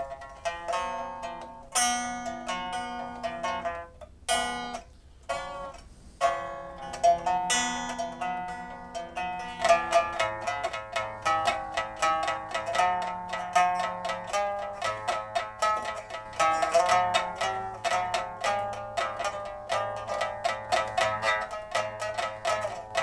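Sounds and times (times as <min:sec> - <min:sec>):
plucked zither music: 0:00.0 - 0:23.0.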